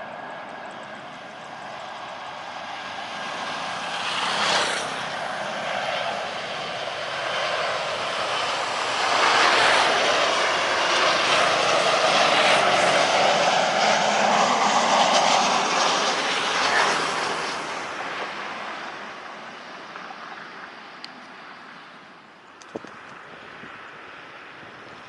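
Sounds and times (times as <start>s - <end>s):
jet airliner engine roar: 0.0s - 25.0s.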